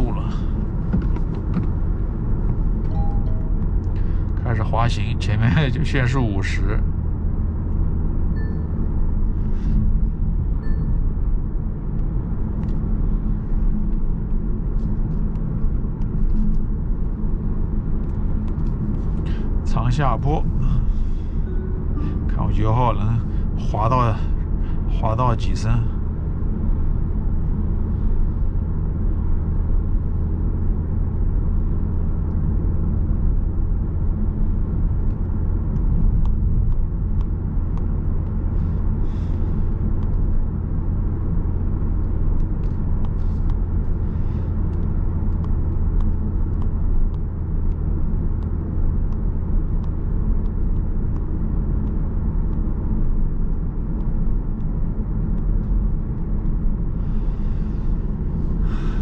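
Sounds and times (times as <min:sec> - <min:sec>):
car cabin road and engine drone: 0:00.0 - 0:59.0.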